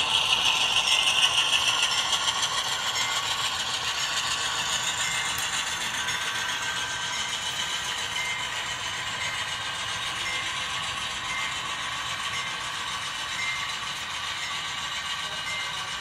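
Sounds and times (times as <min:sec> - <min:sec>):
model train wheels on rails: 0:00.0 - 0:16.0.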